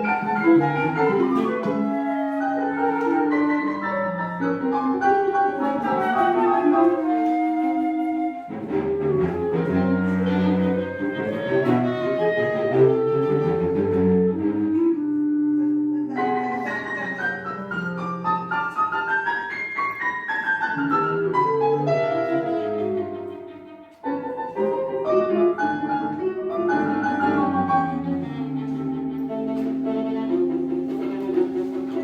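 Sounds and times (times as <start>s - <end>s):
chamber music piano and strings: 0.0s - 32.0s.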